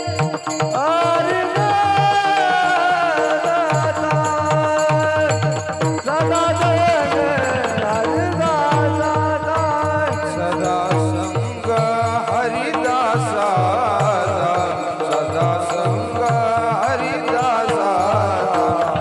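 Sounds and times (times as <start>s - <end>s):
man singing devotional song: 0.0s - 19.0s.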